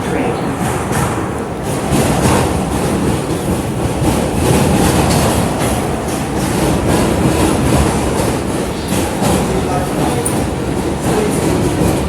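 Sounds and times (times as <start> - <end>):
subway train rumbling: 0.0 - 12.0
wheels clicking over rails: 0.0 - 12.0.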